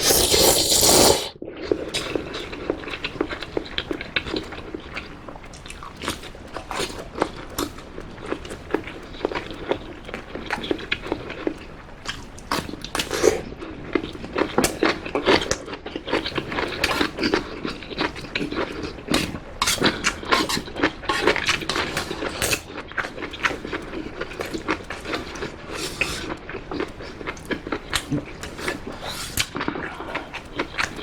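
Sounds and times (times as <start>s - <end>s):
wet chewing clicks: 0.0s - 31.0s.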